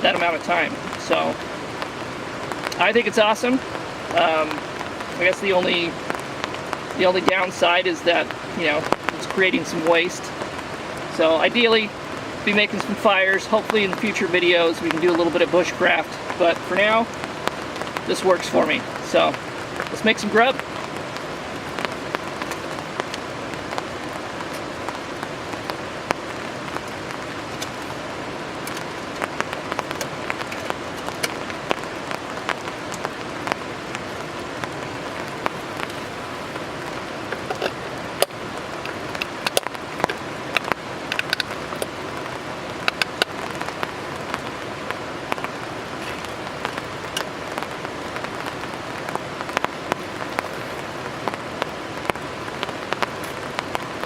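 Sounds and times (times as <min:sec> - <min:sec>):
raindrops tapping: 0:00.0 - 0:54.0
steady rain: 0:00.0 - 0:54.0.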